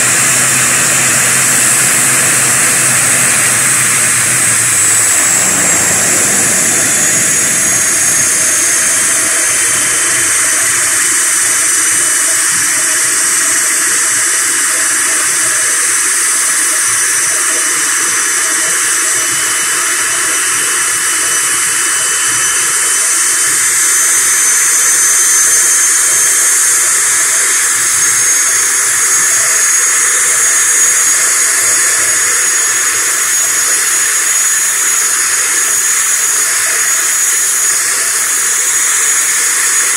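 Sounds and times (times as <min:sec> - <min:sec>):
turboprop engine whine: 0:00.0 - 0:39.9.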